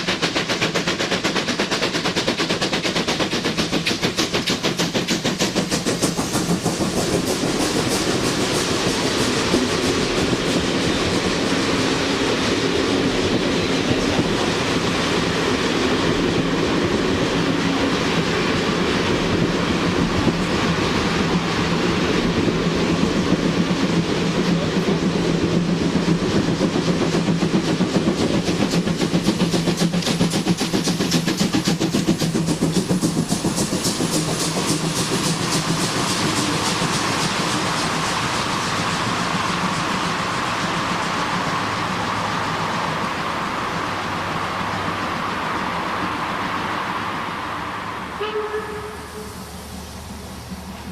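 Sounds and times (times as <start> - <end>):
train wheels clattering: 0.0 - 47.0.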